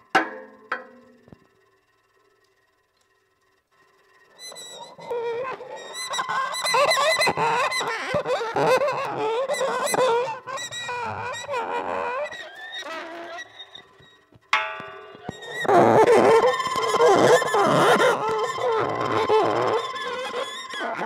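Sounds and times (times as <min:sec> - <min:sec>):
bowed metal spring tones: 0:00.0 - 0:03.0, 0:04.2 - 0:21.0.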